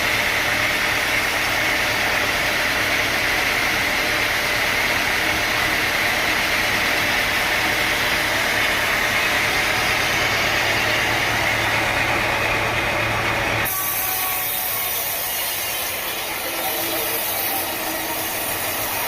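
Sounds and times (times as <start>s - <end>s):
sawmill machinery drone: 0.0s - 19.0s.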